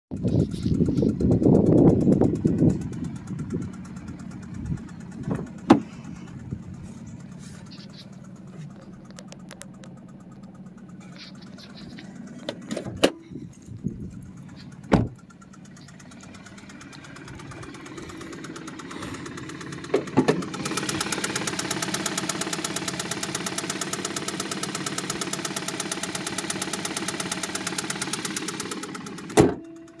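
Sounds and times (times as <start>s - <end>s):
car engine idling with knock: 0.1s - 30.0s.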